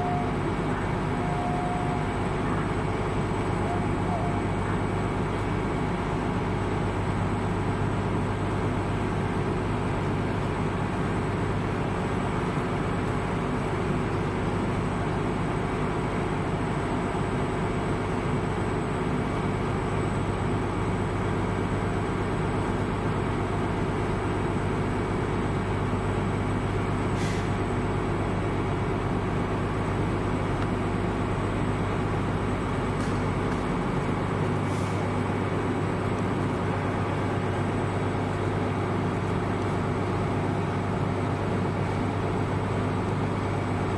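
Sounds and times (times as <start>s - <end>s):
heavy vehicle engine idling: 0.0s - 43.9s.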